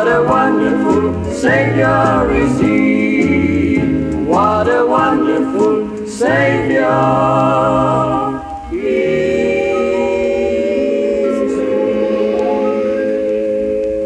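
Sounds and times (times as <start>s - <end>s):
gospel group singing in harmony: 0.0s - 14.0s.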